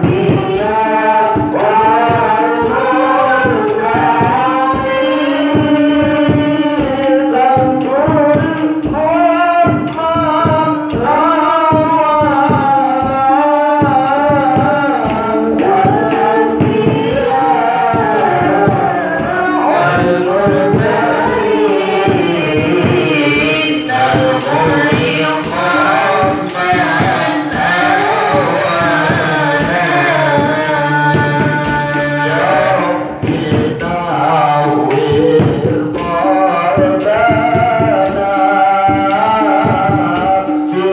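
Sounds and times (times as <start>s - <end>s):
hand percussion beating: 0.0s - 40.9s
man singing through microphone: 0.0s - 40.9s.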